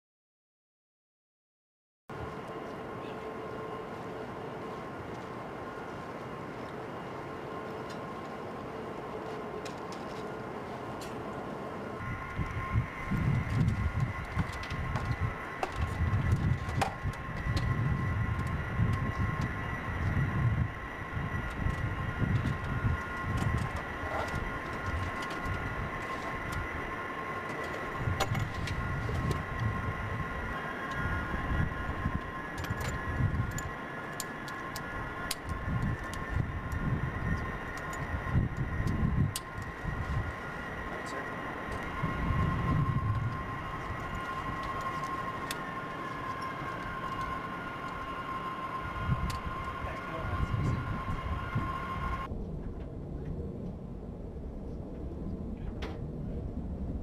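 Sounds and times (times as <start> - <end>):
jet turbines whining: 2.1 - 57.0
wind rumbling on microphone: 7.6 - 57.0.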